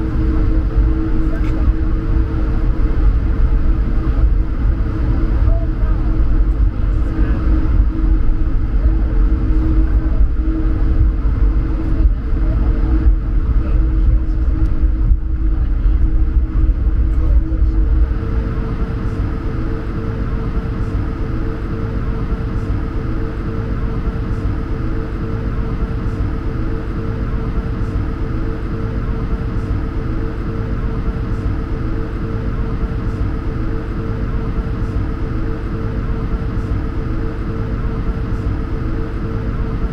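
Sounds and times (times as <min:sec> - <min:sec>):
deep rumble: 0:00.0 - 0:39.9
jet engines humming in cabin: 0:00.0 - 0:39.9.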